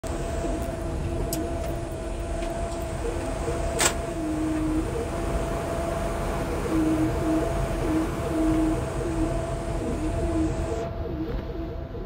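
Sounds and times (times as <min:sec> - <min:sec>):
jet cockpit rumble and hum: 0:00.0 - 0:12.0.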